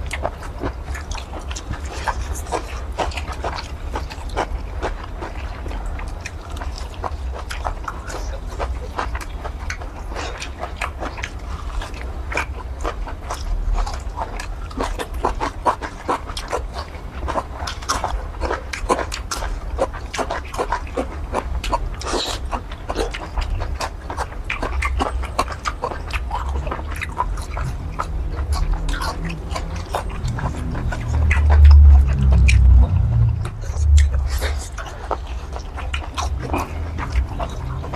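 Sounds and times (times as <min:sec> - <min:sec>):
wet chewing mouth clicks: 0:00.0 - 0:37.9.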